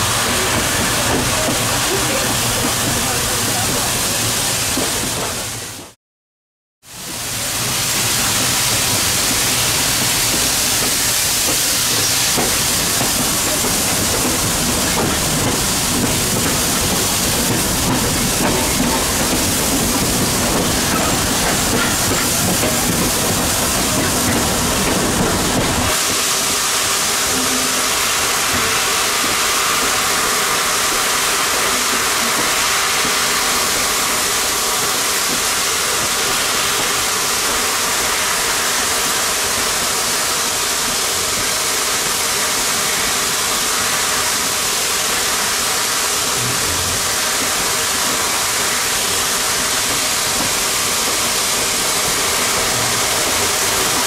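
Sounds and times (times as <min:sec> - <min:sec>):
low rumble of train: 0:00.0 - 0:06.0, 0:06.8 - 0:54.0
steam locomotive hissing: 0:00.0 - 0:06.0, 0:06.9 - 0:54.0.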